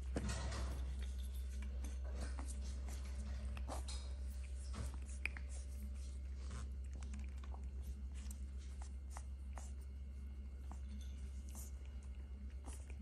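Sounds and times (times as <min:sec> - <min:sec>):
puppies clicking and rustling: 0:00.0 - 0:13.0
steady low hum: 0:00.0 - 0:13.0.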